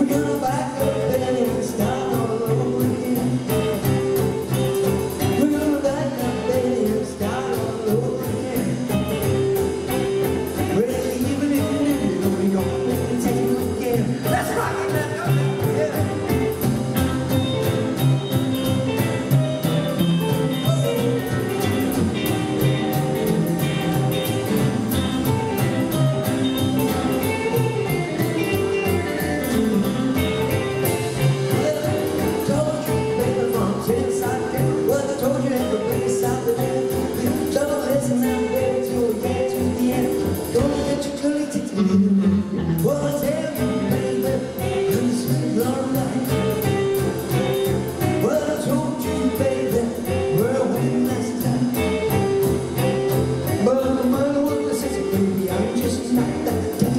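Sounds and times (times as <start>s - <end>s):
male singer: 0.0s - 24.6s, 25.3s - 56.9s
drum kit steady beat: 0.0s - 41.2s, 42.8s - 56.9s
electric and acoustic guitars: 0.0s - 56.9s
upright double bass: 0.0s - 56.9s.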